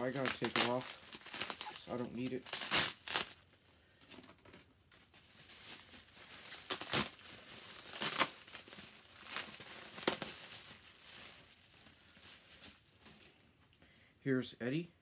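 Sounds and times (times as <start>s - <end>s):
sharp bubble wrap crackles: 0.0s - 13.4s
bubble wrap crinkling: 0.0s - 13.7s.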